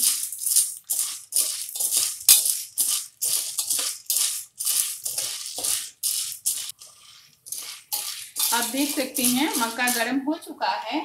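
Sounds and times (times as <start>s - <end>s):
spatula scraping popcorn kernels: 0.0s - 10.5s.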